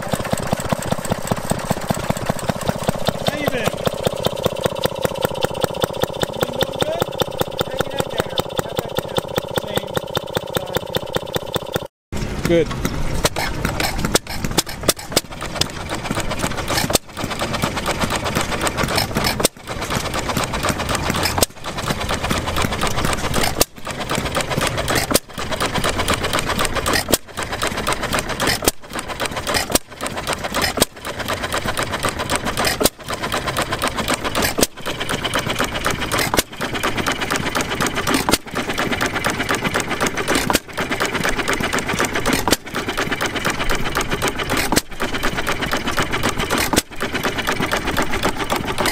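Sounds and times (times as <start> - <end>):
gas engine clattering: 0.0 - 48.9.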